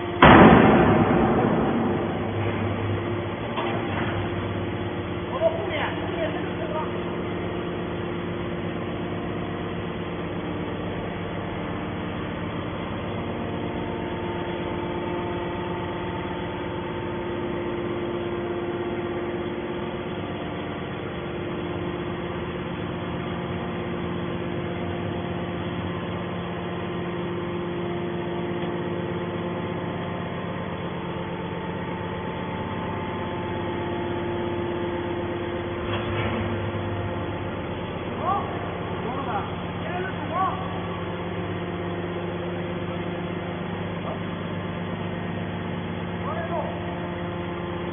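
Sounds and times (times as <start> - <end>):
baling machine humming: 0.0 - 47.9.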